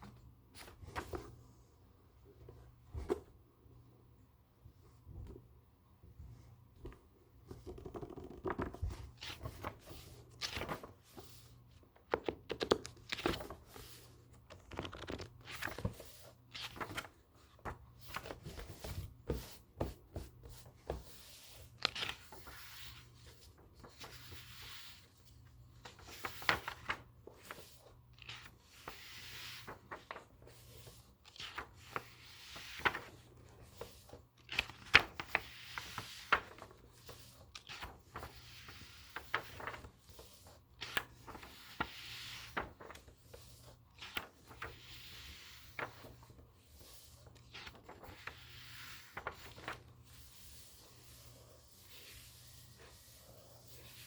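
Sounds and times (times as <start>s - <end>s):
paper pages rustling and turning: 0.0s - 1.6s, 2.3s - 3.4s, 6.8s - 54.0s.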